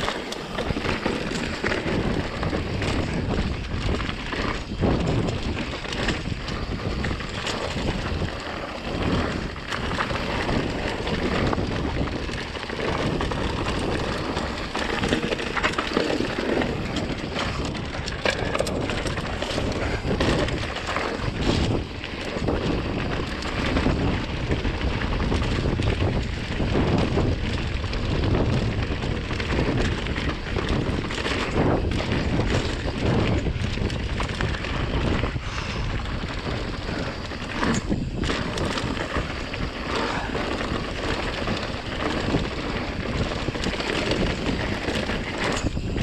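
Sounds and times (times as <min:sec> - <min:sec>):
bike knocks and rattles: 0:00.0 - 0:46.0
bike tyre noise on dirt: 0:00.0 - 0:46.0
wind noise on microphone: 0:00.0 - 0:46.0.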